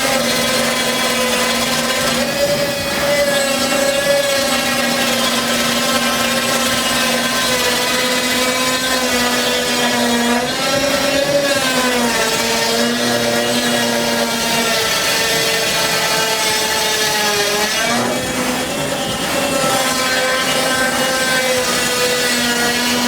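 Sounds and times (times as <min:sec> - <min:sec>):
saw cutting wood with whine: 0:00.0 - 0:23.0.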